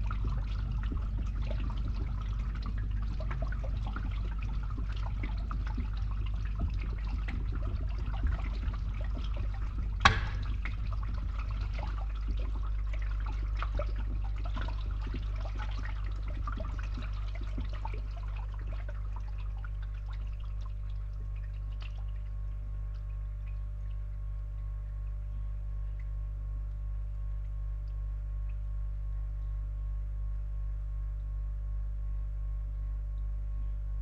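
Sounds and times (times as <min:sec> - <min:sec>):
water drips: 0:00.0 - 0:30.4
pump humming: 0:00.0 - 0:34.0
water trickling through a pipe: 0:00.0 - 0:34.0.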